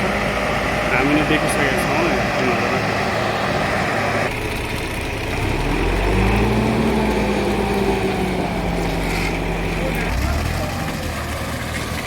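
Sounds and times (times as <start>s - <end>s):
heavy machine engine revving: 0.0s - 12.0s.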